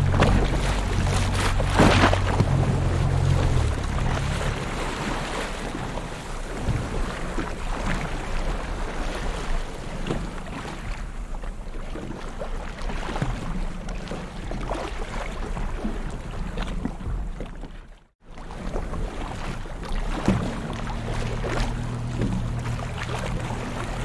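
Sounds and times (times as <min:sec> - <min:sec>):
ocean waves splashing on shore: 0:00.0 - 0:17.4, 0:18.3 - 0:24.0.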